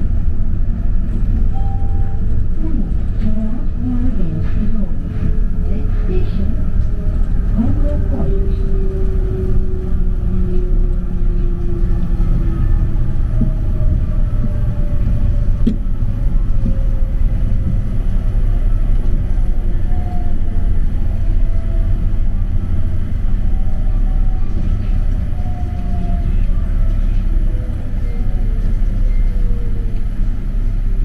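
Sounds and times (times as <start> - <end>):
light rail car rumble and motor whine: 0.0 - 31.0.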